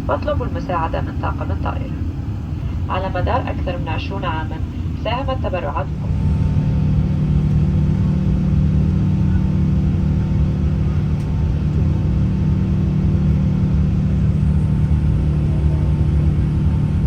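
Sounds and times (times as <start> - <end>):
airplane cabin drone: 0.0 - 17.0
constant humming tones: 0.0 - 17.0.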